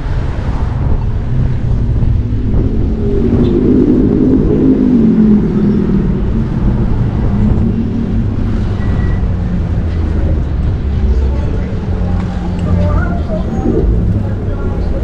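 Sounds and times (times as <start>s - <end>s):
car engines running: 0.0s - 15.0s
low traffic rumble: 0.0s - 15.0s.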